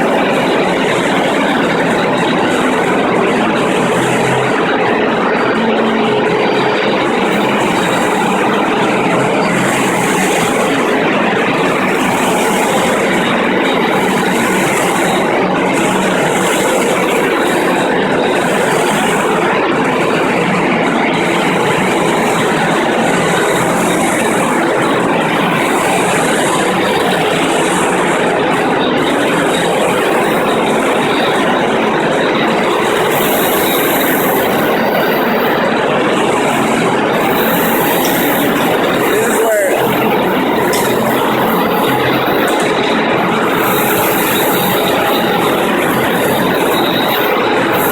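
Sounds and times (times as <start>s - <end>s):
concrete floor grinder grinding: 0.0s - 47.9s.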